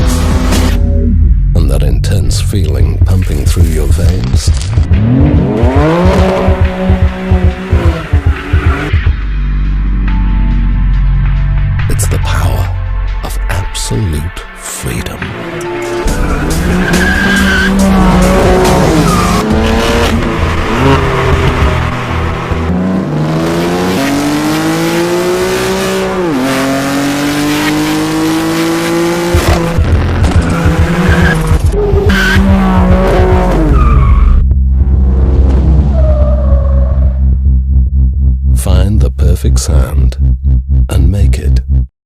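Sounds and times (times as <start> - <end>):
car engine revving: 2.8 - 12.0, 15.3 - 41.9.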